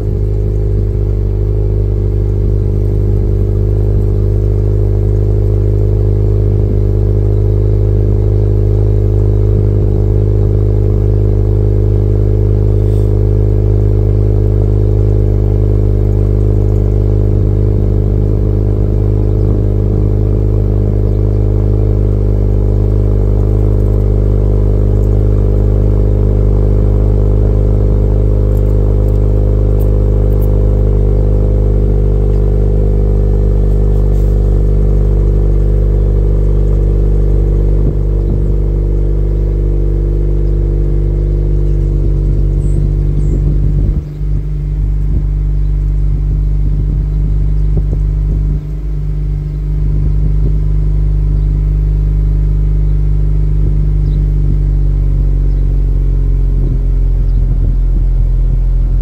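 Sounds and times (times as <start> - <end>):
car engine idling through exhaust: 0.0 - 59.0.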